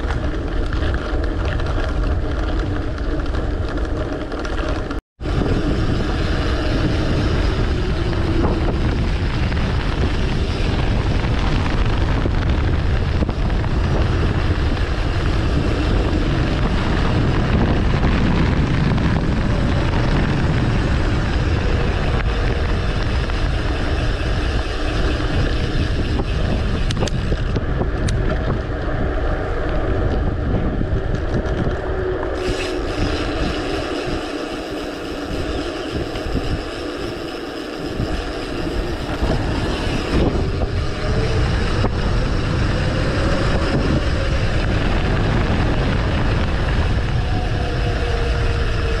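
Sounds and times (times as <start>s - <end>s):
bicycle road noise: 0.0s - 49.0s
wind rushing over microphone: 0.0s - 49.0s.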